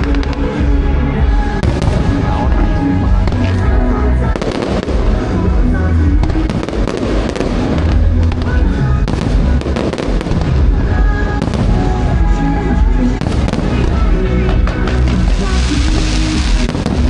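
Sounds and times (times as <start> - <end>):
fireworks bursting: 0.0 - 17.0
music with heavy bass: 0.0 - 17.0.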